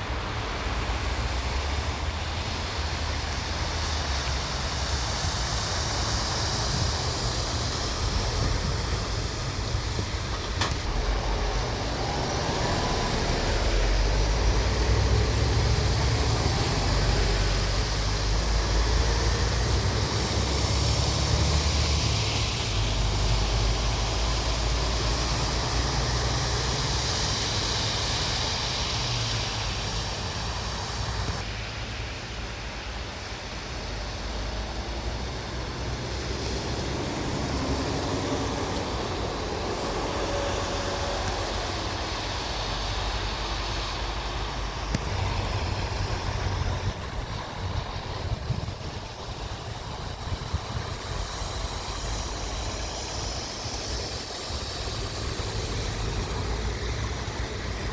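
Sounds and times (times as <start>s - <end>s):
road and wind noise: 0.0s - 57.9s
truck engines rumbling: 0.0s - 57.9s.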